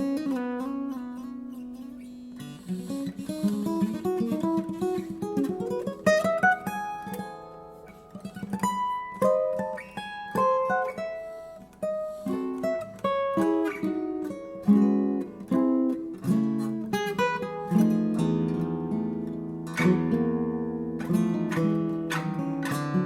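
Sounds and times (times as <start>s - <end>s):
solo jazz guitar: 0.0s - 23.0s.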